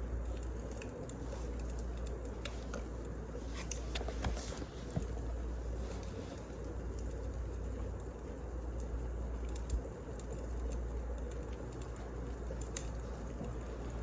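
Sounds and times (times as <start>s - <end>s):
fire crackles and pops: 0.0s - 14.0s
wood fire rumbling: 0.0s - 14.0s.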